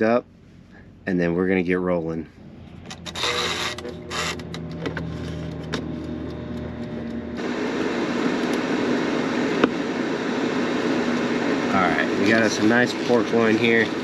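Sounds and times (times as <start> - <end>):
air fryer fan rushing: 0.0 - 14.0
low hum: 0.0 - 14.0.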